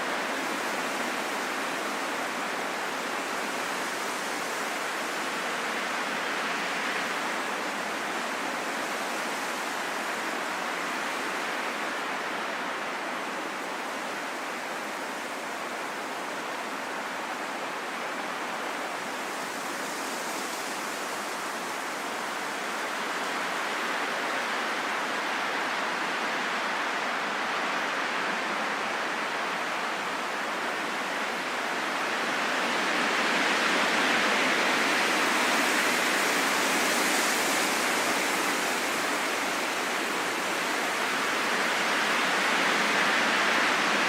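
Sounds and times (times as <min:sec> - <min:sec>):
calm steady wind: 0:00.0 - 0:44.0.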